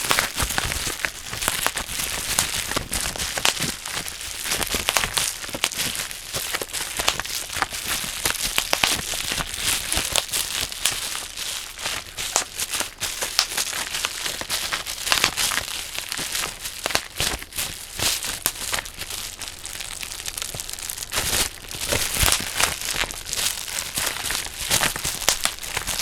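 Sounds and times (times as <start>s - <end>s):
bubble wrap popping: 0.0s - 26.0s
plastic sheet crinkling: 0.0s - 26.0s.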